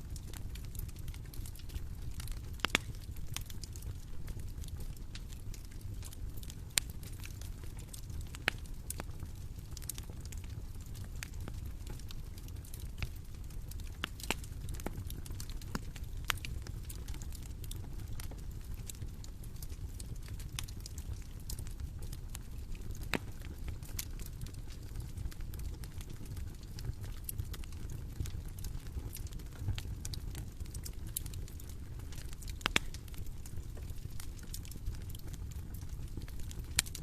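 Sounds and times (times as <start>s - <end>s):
fire crackling and popping: 0.0s - 37.0s
wood fire rumbling: 0.0s - 37.0s.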